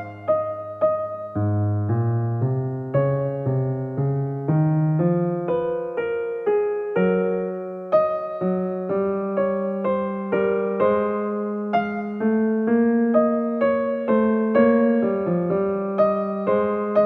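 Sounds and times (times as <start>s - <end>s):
soft electric piano music: 0.0s - 17.0s.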